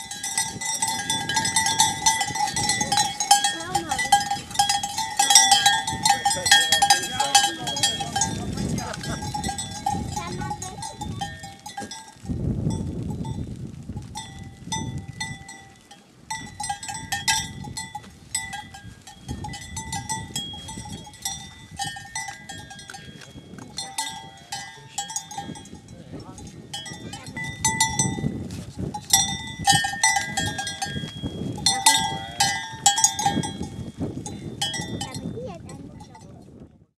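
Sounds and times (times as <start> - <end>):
goat bells clanking: 0.0 - 13.4, 14.0 - 36.5.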